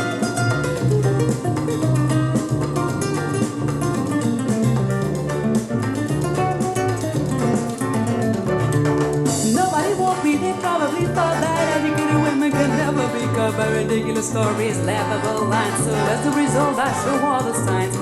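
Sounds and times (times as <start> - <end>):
instrumental pop music: 0.0 - 18.0.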